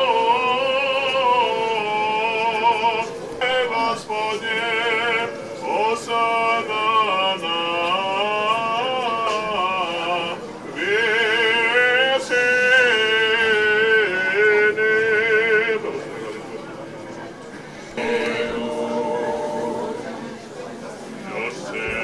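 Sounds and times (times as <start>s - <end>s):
liturgical chant singing: 0.0s - 22.0s.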